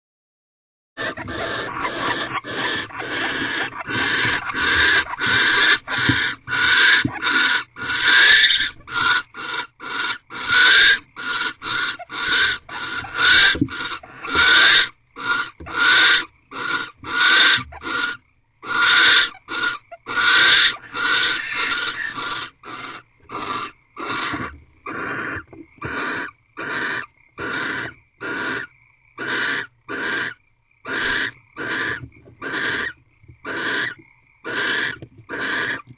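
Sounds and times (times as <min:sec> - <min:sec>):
barn owls screeching: 0:01.0 - 0:35.9.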